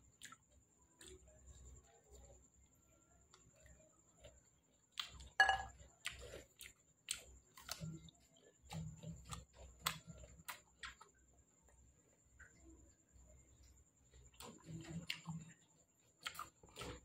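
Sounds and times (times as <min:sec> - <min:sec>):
wet chewing and lip-smacking: 0:00.0 - 0:02.6, 0:03.2 - 0:17.0.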